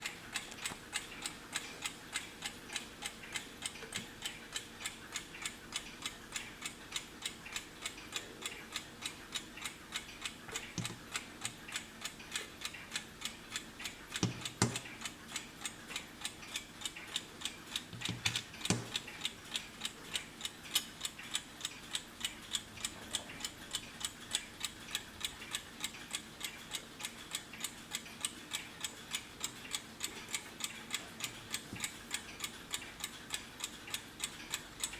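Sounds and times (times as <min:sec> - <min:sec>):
mechanical alarm clock ticking: 0:00.0 - 0:34.9.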